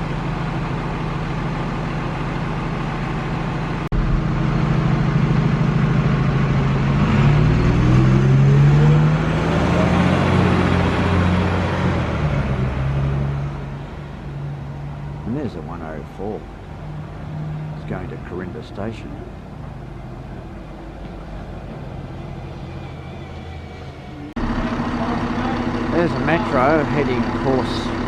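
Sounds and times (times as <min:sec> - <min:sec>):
bus accelerating: 0:00.0 - 0:28.0
bus engine idling: 0:00.0 - 0:28.0.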